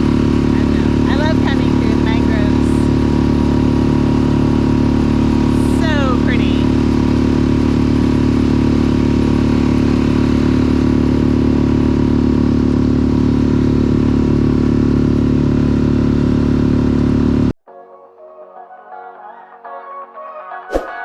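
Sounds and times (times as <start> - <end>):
engine droning steadily: 0.0 - 17.6.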